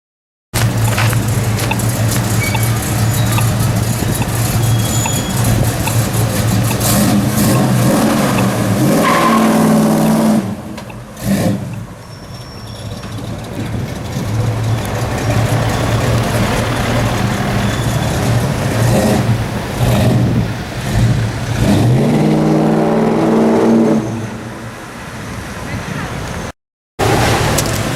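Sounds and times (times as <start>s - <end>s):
car engine idling and revving: 0.6s - 27.9s.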